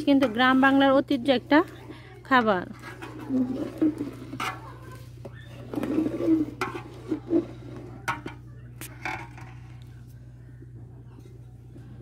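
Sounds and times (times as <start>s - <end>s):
metal ladle scraping a pot: 0.0s - 9.8s
steady low hum: 0.0s - 12.0s.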